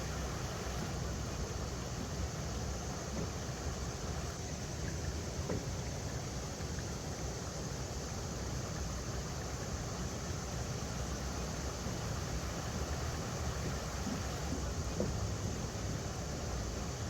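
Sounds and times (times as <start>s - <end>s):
river water over rocks: 0.0s - 6.2s, 7.6s - 17.0s.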